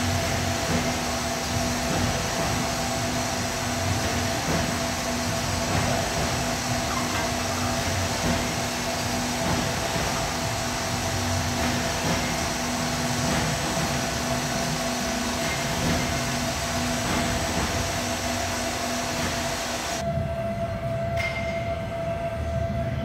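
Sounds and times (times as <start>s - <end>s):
hydraulic hiss: 0.0s - 20.0s
hydraulic pump motor hum: 0.0s - 20.3s.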